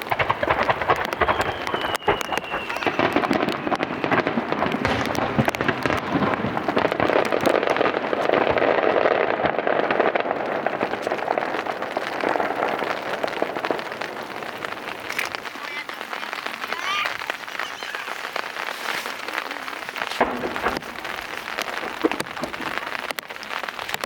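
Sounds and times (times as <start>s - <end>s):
fireworks crackling and popping: 0.0s - 24.0s
rain hissing: 0.0s - 24.0s.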